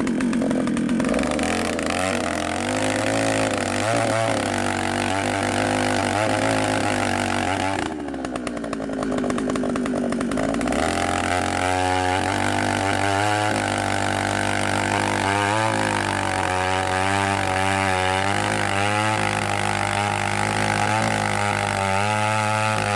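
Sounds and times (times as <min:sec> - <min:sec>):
drill engine running: 0:00.0 - 0:22.9.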